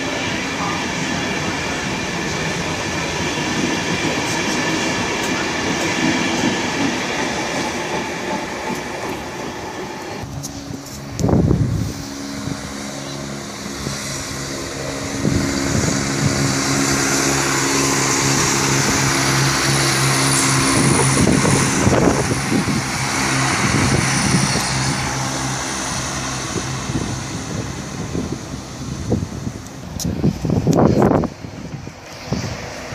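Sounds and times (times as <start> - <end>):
rushing noise of train: 0.0 - 32.9
train engine hum: 0.0 - 32.9.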